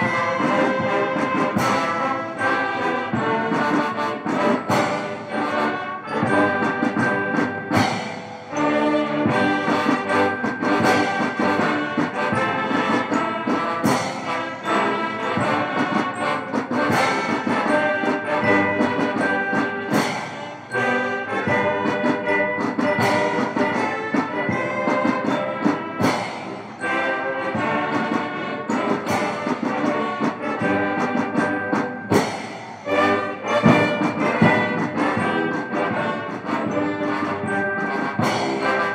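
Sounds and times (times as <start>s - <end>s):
brass band playing: 0.0s - 38.9s
drum strikes: 0.0s - 38.9s.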